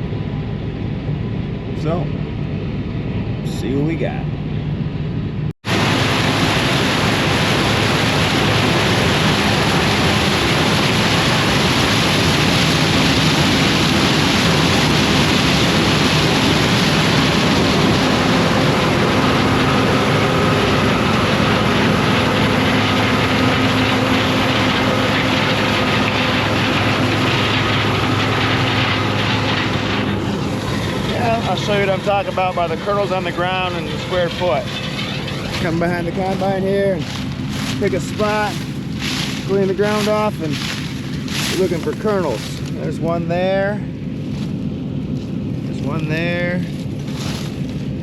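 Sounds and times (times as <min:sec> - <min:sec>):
combine harvester drone: 0:00.0 - 0:48.0
high machinery whine: 0:00.0 - 0:48.0.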